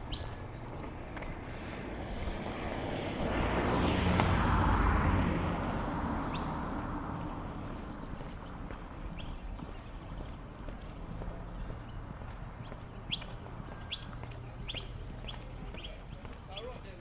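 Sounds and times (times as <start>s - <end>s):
vehicle passing by: 0.4s - 15.7s.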